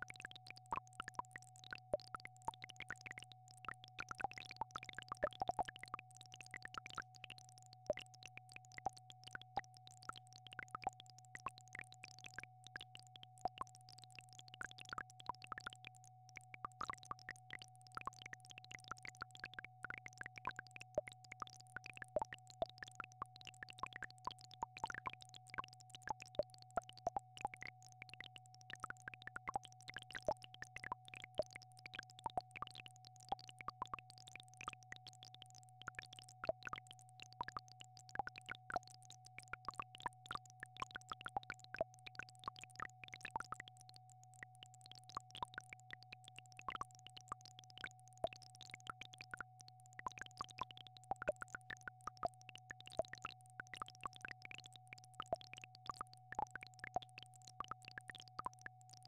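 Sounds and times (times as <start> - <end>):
small plinking plops: 0.0 - 59.0.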